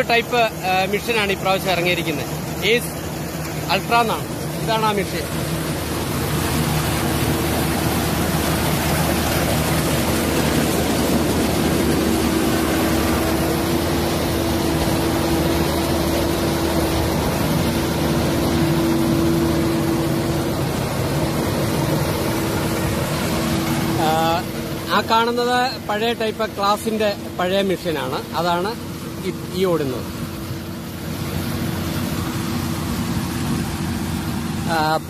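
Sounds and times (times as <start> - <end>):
harvester engine droning: 0.0 - 35.0.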